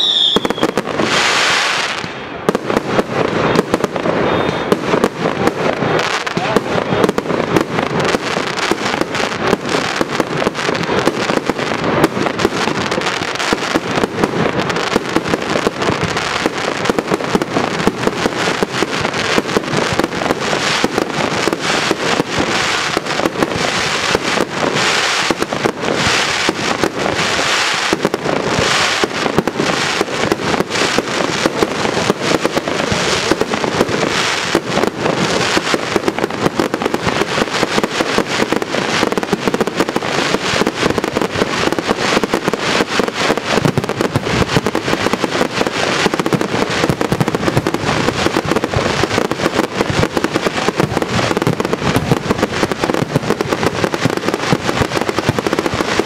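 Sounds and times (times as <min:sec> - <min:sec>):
fireworks banging and crackling: 0:00.0 - 0:56.0.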